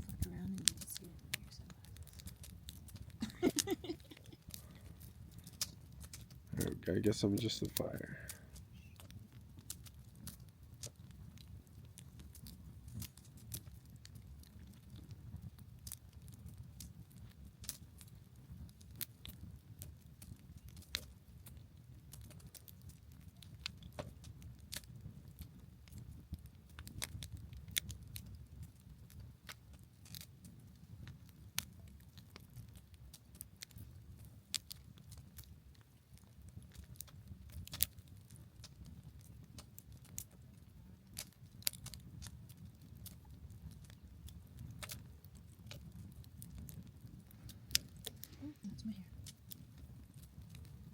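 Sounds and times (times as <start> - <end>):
campfire crackling and popping: 0.0 - 50.9
low rumble of fire: 0.0 - 50.9.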